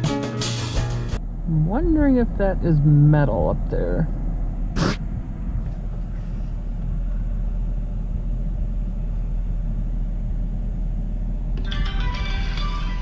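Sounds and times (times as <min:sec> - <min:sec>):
truck engine rumble from cab: 0:00.5 - 0:13.0.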